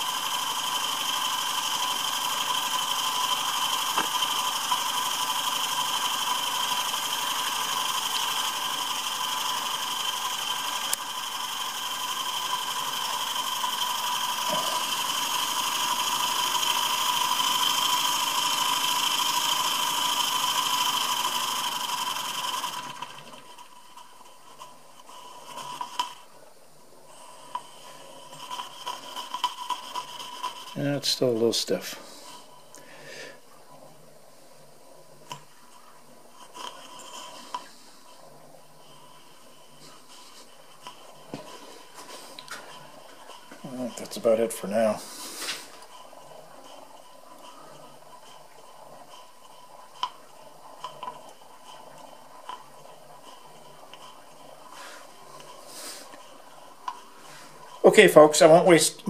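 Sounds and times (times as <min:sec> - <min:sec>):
model steam engine running: 0:00.0 - 0:26.4, 0:27.0 - 0:34.0, 0:34.8 - 0:59.0.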